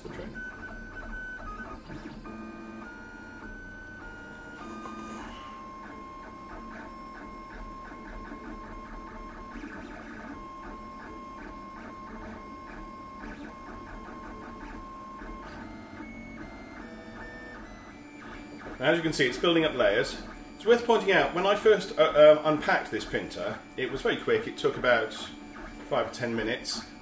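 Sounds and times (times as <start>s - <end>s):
printer stepper motor whine: 0.0s - 27.0s.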